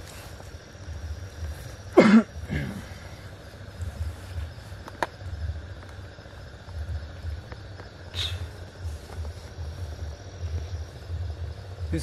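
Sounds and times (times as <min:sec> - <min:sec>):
low rumble: 0:00.0 - 0:12.0
night insects chirring: 0:00.0 - 0:12.0.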